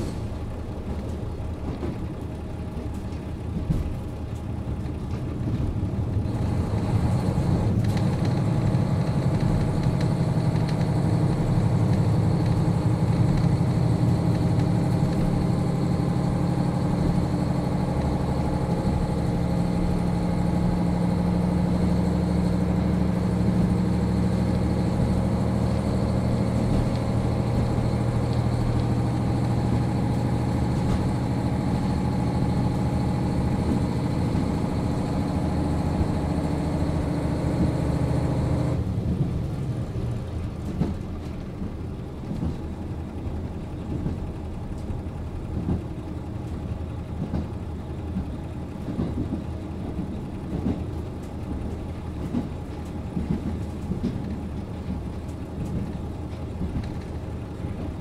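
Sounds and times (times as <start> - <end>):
diesel railcar engine idling: 0.0 - 58.0.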